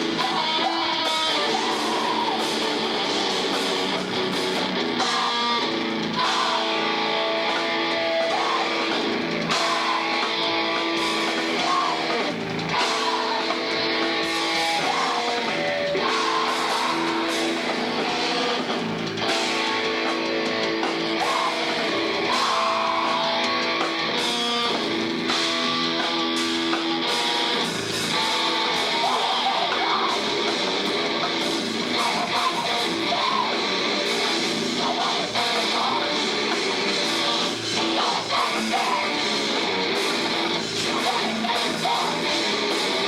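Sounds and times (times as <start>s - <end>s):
drums: 0.0s - 43.0s
heavy electric guitar chords: 0.0s - 43.0s.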